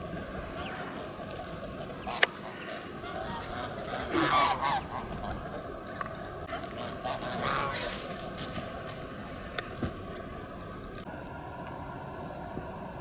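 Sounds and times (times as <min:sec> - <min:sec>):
geese honking: 0:00.0 - 0:11.1.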